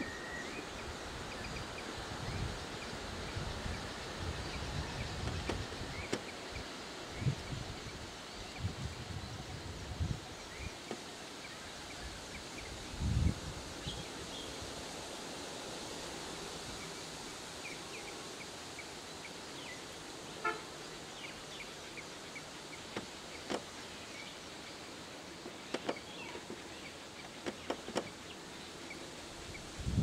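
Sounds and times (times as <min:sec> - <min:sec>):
high chirps of birds or insects: 0:00.0 - 0:30.0
steady hiss: 0:00.0 - 0:30.0.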